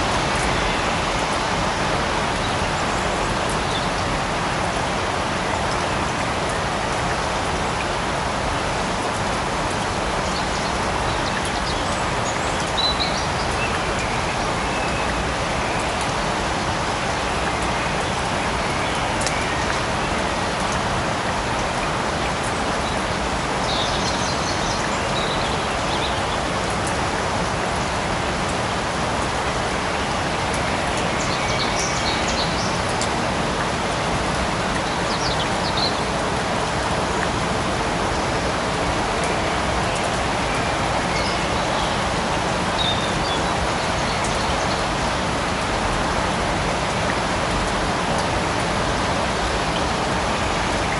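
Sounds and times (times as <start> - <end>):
light rain falling: 0.0 - 50.9.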